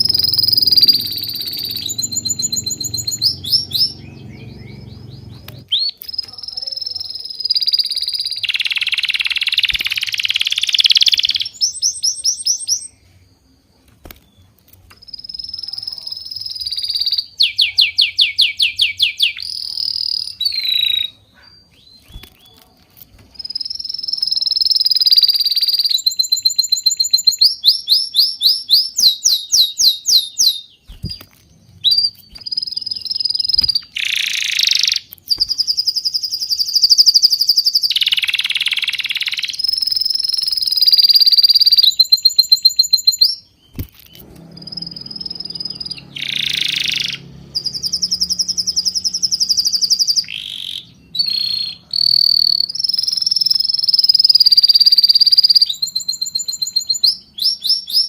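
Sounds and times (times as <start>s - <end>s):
birdsong: 0.0s - 58.0s.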